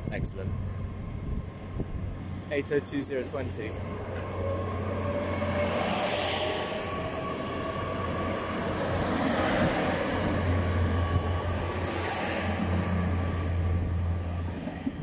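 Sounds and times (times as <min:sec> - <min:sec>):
train diesel engine humming: 0:00.0 - 0:15.0.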